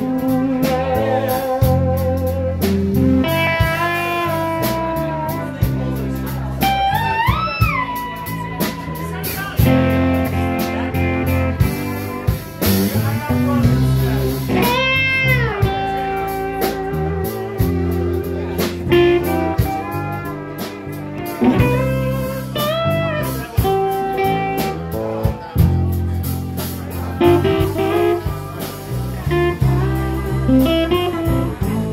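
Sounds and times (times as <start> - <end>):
drum kit: 0.0 - 31.9
electric bass: 0.0 - 31.9.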